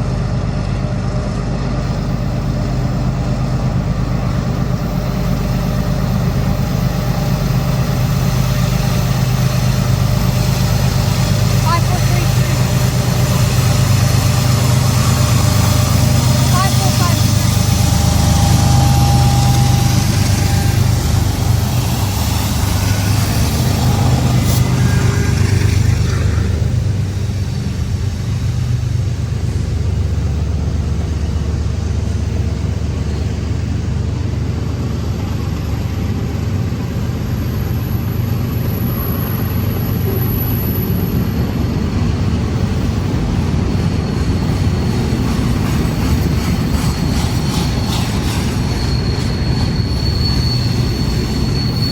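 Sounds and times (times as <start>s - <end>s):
diesel locomotive engine hum: 0.0s - 51.9s
rumble of rolling freight cars: 0.0s - 51.9s.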